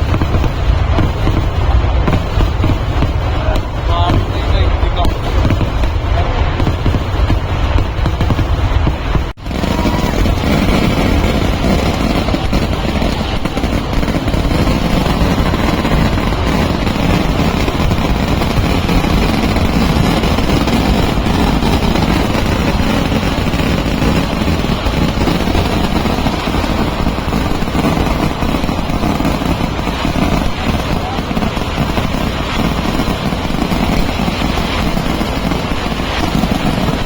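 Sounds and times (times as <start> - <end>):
firecrackers roaring: 0.0 - 37.0.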